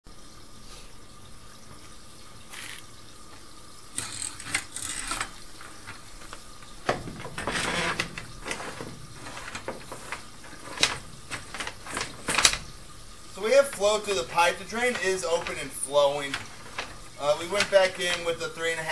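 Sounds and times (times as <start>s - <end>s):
water running and splashing: 0.1s - 18.9s.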